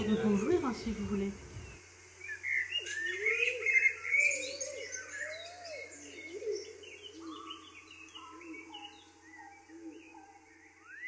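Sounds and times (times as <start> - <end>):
birds chirping: 0.0 - 11.0
lower bird calls: 0.0 - 11.0.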